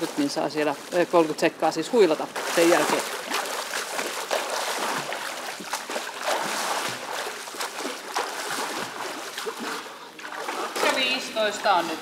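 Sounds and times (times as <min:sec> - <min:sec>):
arms splashing into water: 0:00.0 - 0:12.0
wash of churned water: 0:00.0 - 0:12.0.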